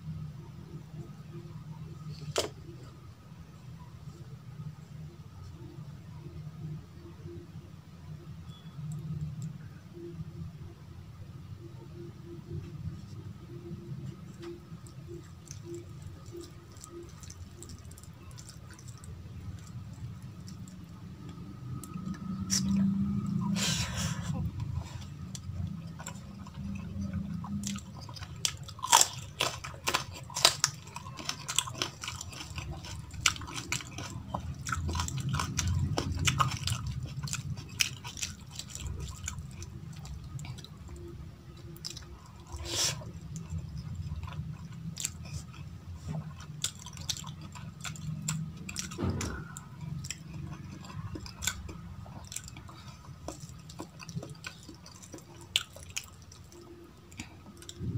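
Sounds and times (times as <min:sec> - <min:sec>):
person chewing food: 0:02.0 - 0:03.0, 0:12.5 - 0:57.9.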